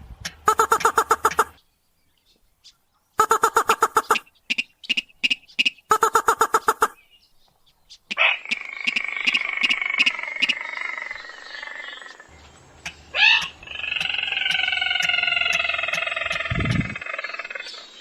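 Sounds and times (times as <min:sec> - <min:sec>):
recorded bird calls: 0:00.2 - 0:18.0.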